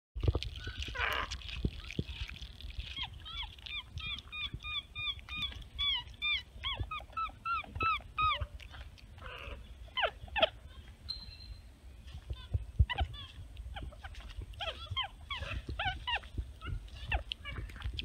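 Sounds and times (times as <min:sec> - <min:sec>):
monkeys chirping and squeaking: 0:00.5 - 0:18.0.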